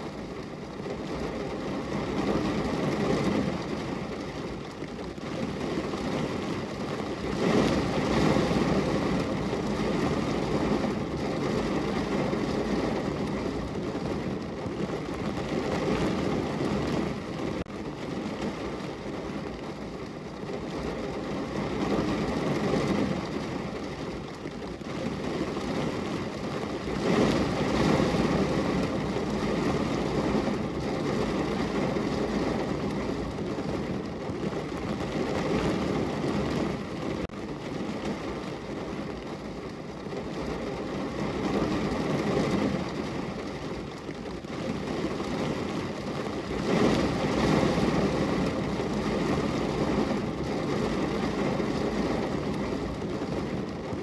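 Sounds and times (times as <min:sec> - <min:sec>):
rain falling on a window: 0:00.0 - 0:54.0.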